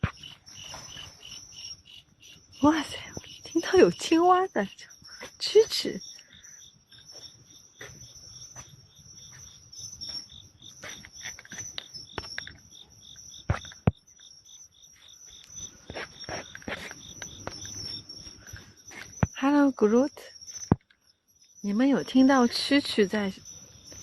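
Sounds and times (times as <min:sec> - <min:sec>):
crickets trilling: 0:00.0 - 0:24.0
insect pulsing: 0:00.0 - 0:24.0.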